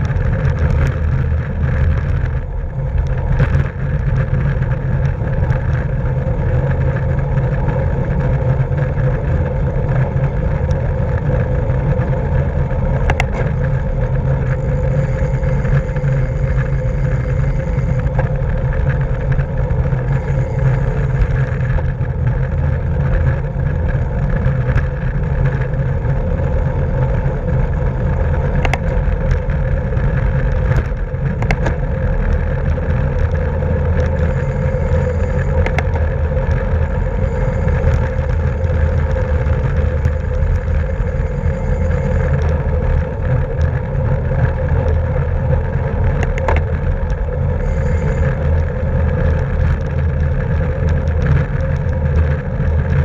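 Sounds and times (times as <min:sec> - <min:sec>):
bicycle rolling at speed: 0:00.0 - 0:53.0
wind on microphone: 0:00.0 - 0:53.0.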